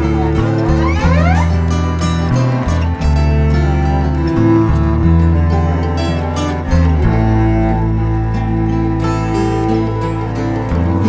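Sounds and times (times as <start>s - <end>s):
string and plucked background music: 0.0s - 11.0s.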